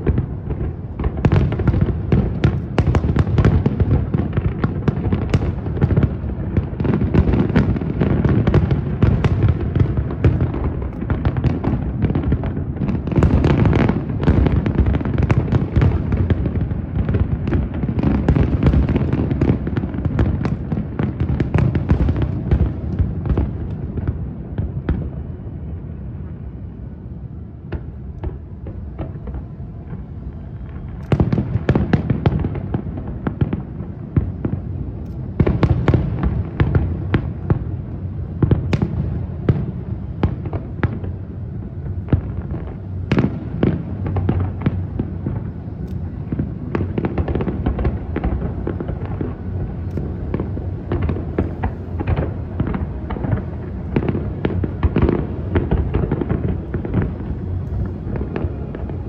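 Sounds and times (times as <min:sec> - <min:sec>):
fireworks cracks and booms: 0:00.0 - 0:59.0.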